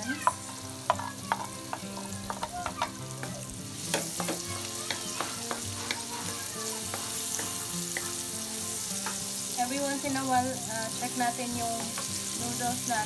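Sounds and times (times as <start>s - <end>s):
onions sizzling in a wok: 0.0s - 13.0s.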